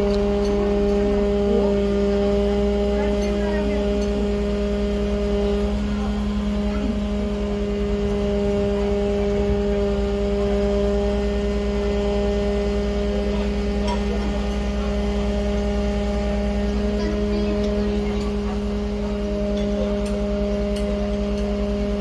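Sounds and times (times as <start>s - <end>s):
fire truck engines running: 0.0s - 22.0s.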